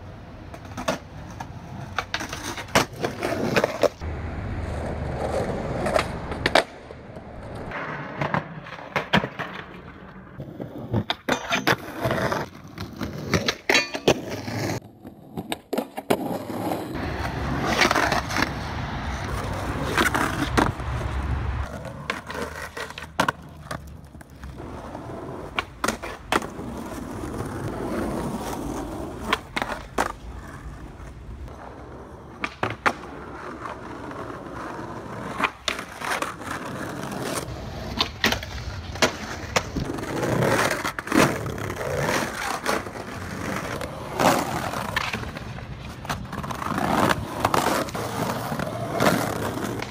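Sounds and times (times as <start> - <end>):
skateboard wheels rolling on concrete: 0.0 - 49.9
skateboard clacks: 0.4 - 49.9.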